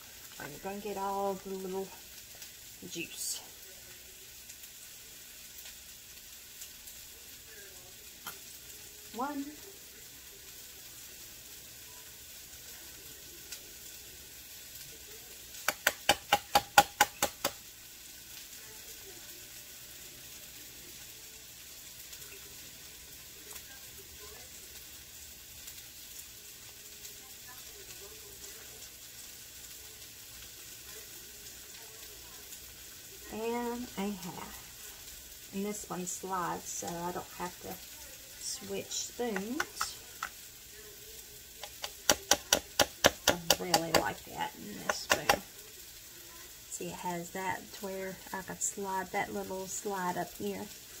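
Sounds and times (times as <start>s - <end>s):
hot dog pieces sizzling in a pan: 0.0s - 51.0s.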